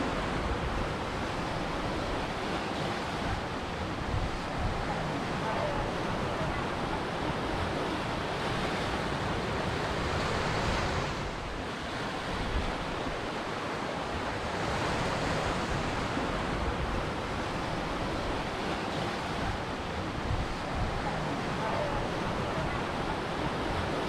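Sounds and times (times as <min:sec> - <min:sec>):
ocean waves breaking on shore: 0:00.0 - 0:24.0.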